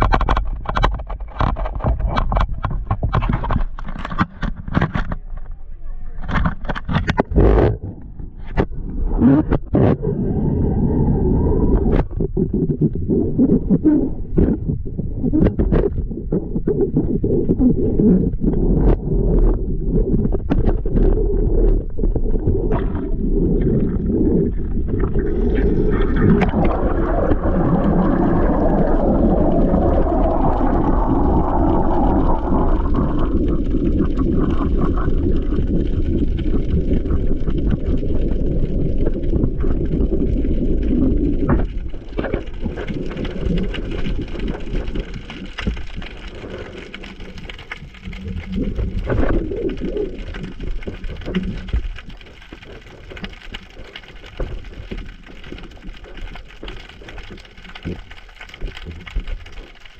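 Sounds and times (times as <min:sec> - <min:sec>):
muffled underwater sloshing: 0:00.0 - 0:59.9.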